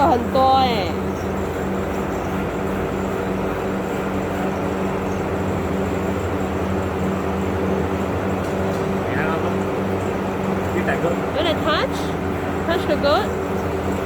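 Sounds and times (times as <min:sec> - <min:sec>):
mechanical hum with rushing noise: 0:00.0 - 0:14.0.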